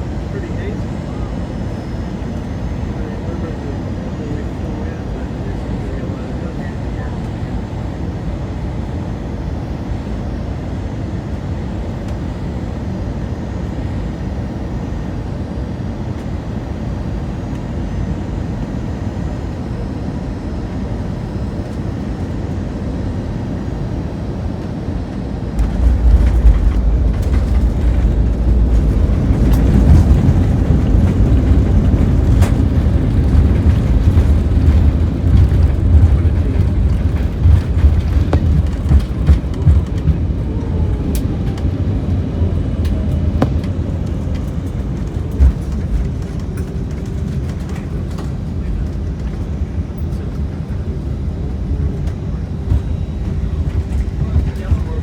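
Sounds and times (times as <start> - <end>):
aircraft cabin engine and airflow noise: 0.0 - 55.0
airliner touchdown rumble and rattling: 0.0 - 55.0.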